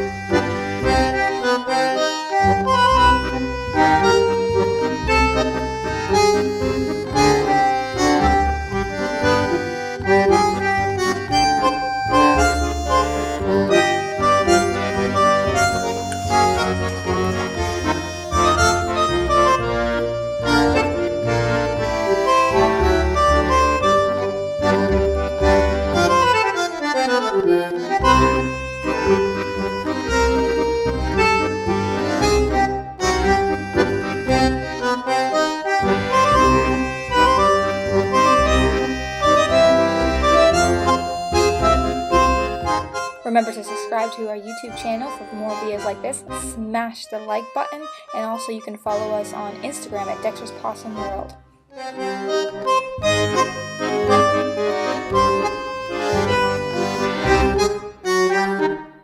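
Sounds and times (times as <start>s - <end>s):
accordion tune over bass: 0.0s - 59.0s.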